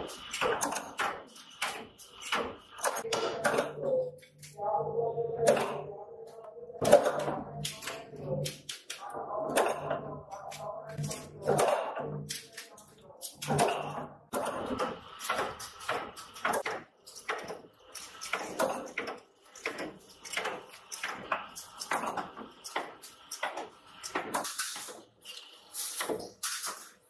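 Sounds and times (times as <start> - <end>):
small roller machine: 0.0 - 3.9, 9.0 - 27.0.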